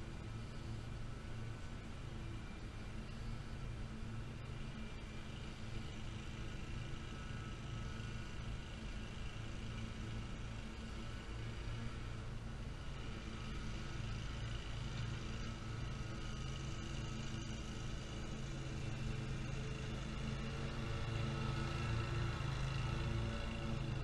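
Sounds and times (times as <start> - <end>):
lawn mower engine running: 4.4 - 24.0.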